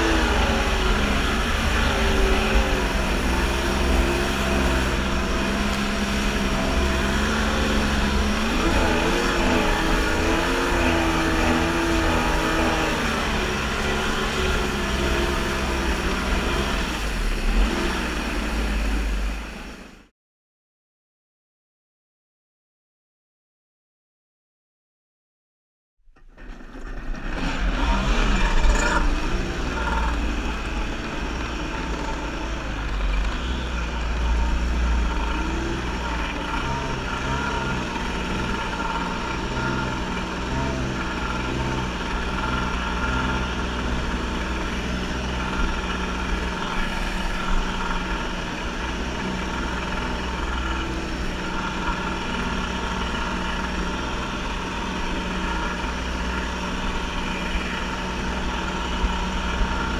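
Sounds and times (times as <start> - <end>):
jetski engine running: 0.0 - 20.1, 26.4 - 59.9.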